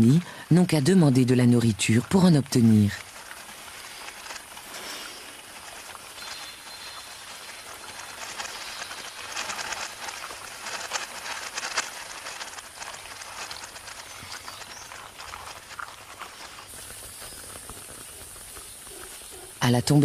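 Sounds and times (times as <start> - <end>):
ants crackling and clicking: 0.0 - 20.0.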